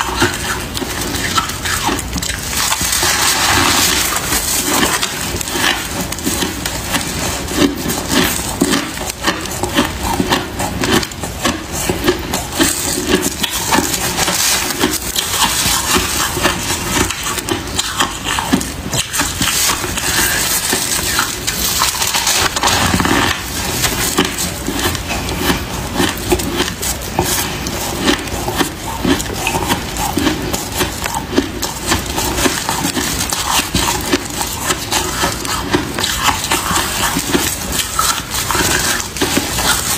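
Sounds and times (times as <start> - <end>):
chewing crunch: 0.0 - 39.9
frost crunching: 0.0 - 39.9.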